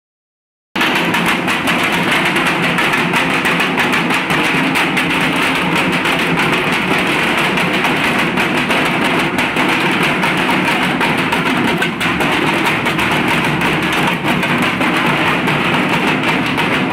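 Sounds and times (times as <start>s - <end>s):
large drums beaten with sticks: 0.8s - 16.9s.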